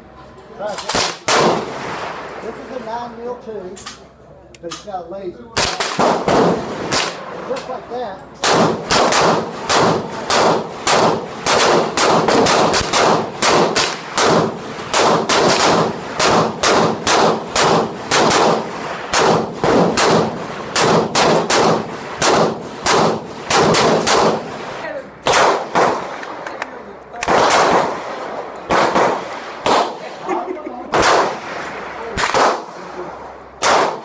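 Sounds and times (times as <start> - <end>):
sharp gunshots: 0.8 - 2.3, 5.6 - 7.8, 8.4 - 26.5, 27.2 - 30.2, 30.9 - 34.0.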